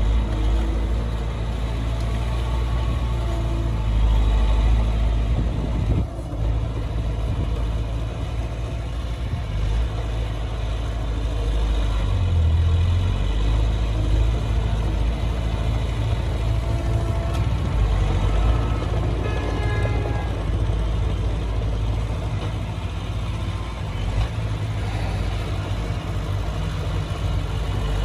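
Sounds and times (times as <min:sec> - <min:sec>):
heavy diesel engine rumbling: 0:00.0 - 0:28.0.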